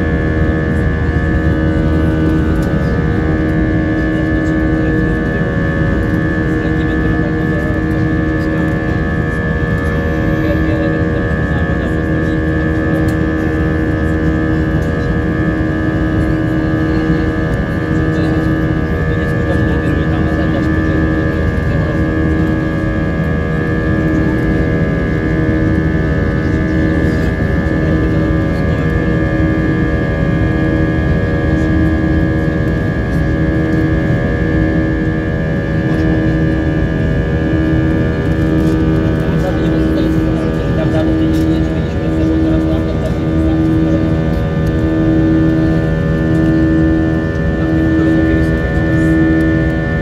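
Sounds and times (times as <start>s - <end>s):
airliner engine hum: 0.0s - 50.0s
pulsing engine tone: 0.0s - 50.0s.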